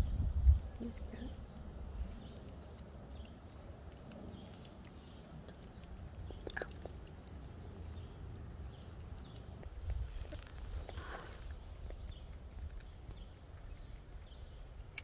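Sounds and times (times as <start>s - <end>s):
squirrel gnawing food: 0.5s - 15.0s.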